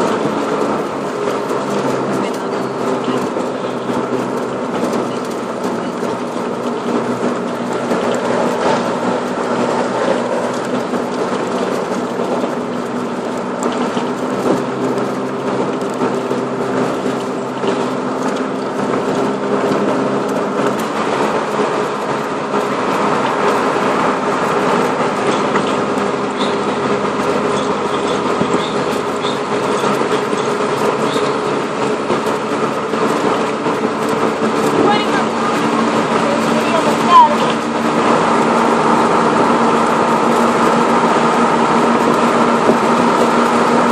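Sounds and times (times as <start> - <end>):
car engine cruising: 0.0 - 43.9
road noise: 0.0 - 43.9.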